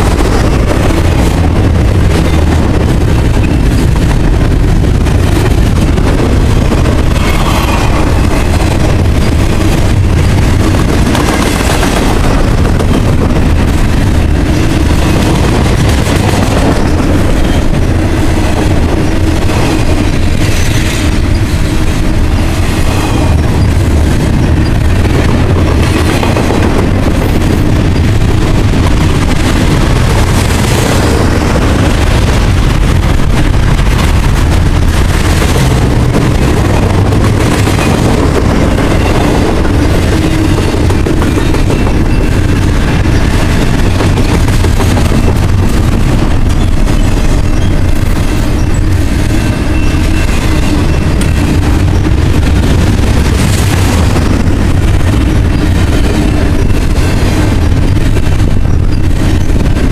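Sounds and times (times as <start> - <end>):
rail cars clattering and rattling: 0.0 - 59.9
train wheels rumbling on rail: 0.0 - 59.9.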